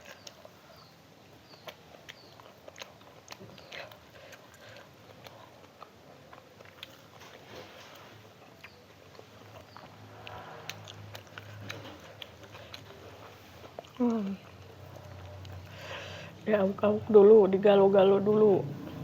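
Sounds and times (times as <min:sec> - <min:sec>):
person chewing food: 0:00.0 - 0:16.4
low steady hum: 0:00.0 - 0:19.0.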